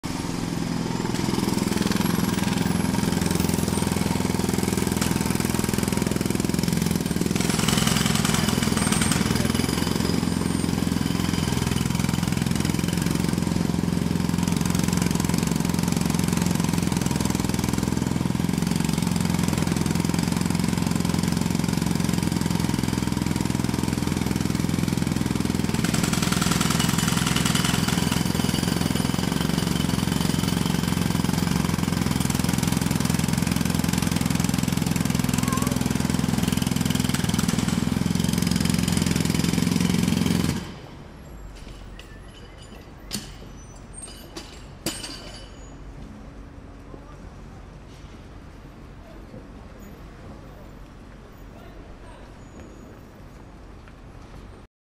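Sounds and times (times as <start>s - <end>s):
jackhammer hammering: 0.0s - 40.9s, 41.6s - 45.7s.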